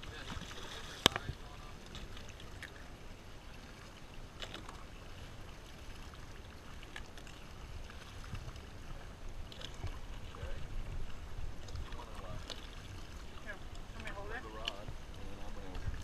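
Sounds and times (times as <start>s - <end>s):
water washing against boat: 0.0s - 16.0s
wind: 0.0s - 16.0s.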